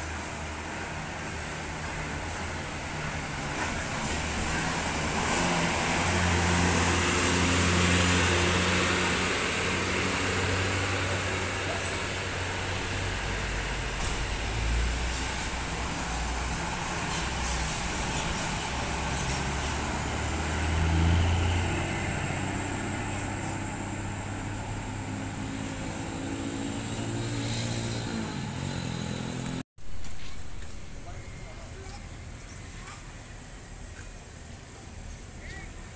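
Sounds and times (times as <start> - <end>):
bus diesel engine accelerating: 0.0 - 35.9.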